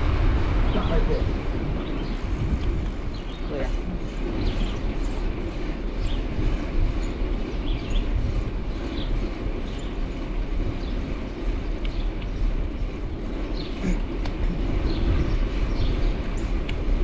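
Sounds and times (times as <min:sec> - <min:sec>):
vehicle rumbling: 0:00.0 - 0:17.0.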